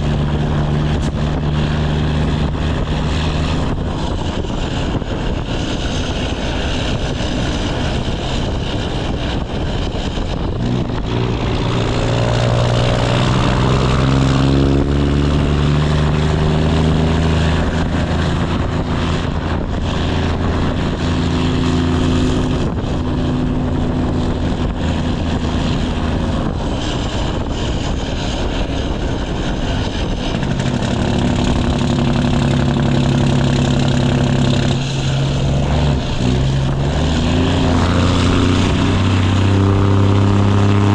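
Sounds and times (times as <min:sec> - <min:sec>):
diesel truck exhaust drone: 0:00.0 - 0:40.9.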